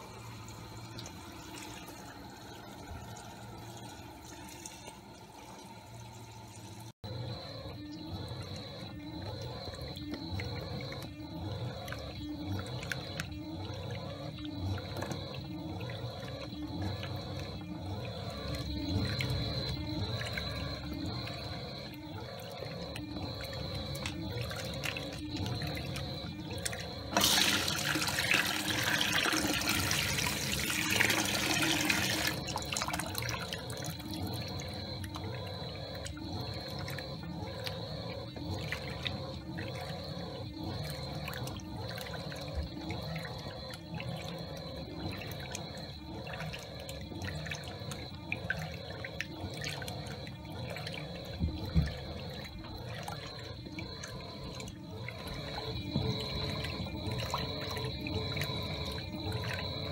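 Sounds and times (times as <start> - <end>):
washing machine water sloshing: 0.0 - 59.9.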